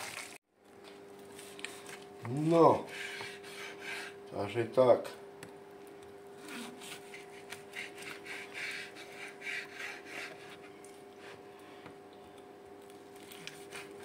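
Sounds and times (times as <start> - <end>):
steady low hum: 0.6 - 14.0.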